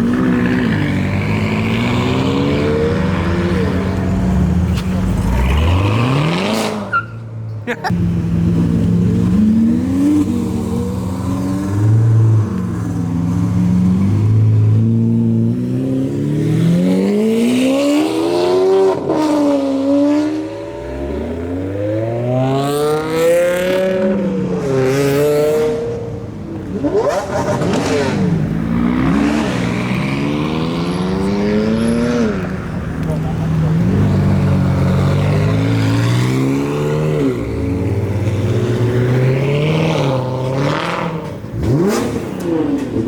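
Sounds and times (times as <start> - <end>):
car engines revving and accelerating: 0.0 - 43.0.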